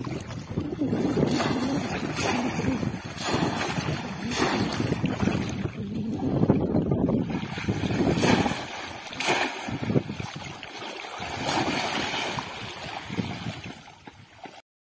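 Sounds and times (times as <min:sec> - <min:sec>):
water pouring from fish trap: 0:00.0 - 0:05.8, 0:07.2 - 0:13.7
person thrashing through water: 0:00.0 - 0:14.6
water splashing and sloshing: 0:00.0 - 0:14.6.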